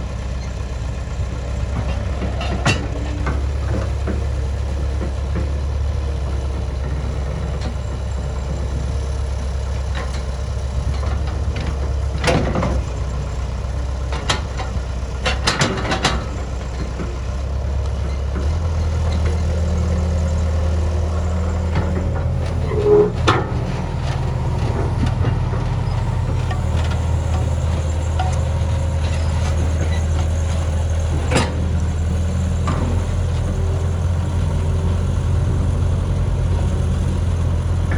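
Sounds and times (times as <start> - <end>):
bulldozer diesel engine running: 0.0 - 37.9.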